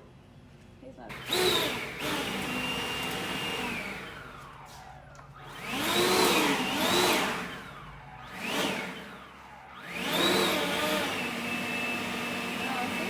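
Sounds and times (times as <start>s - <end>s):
small electric motor whining: 1.1s - 13.0s.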